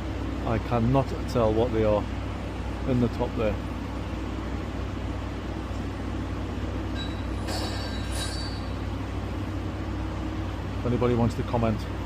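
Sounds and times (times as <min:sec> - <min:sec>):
city background hum: 0:00.0 - 0:12.0.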